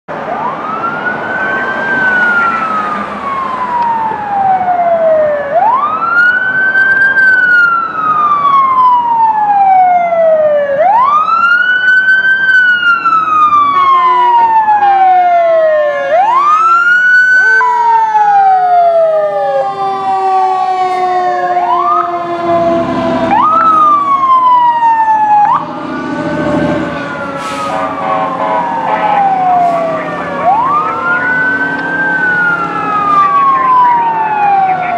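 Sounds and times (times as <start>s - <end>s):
sirens wailing and yelping: 0.1s - 34.9s.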